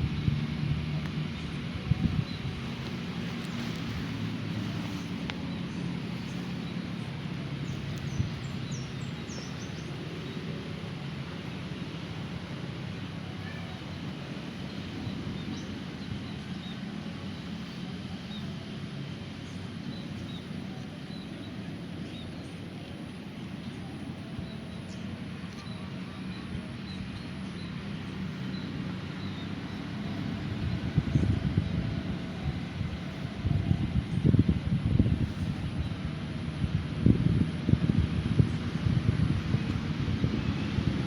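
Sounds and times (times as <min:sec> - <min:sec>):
road traffic rumble: 0:00.0 - 0:41.0
birds chirping: 0:01.0 - 0:36.0.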